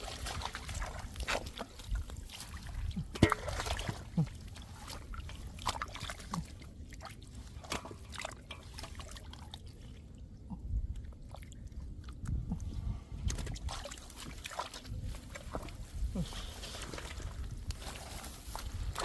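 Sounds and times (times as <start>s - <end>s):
muddy water sloshing and splashing: 0.0s - 19.0s.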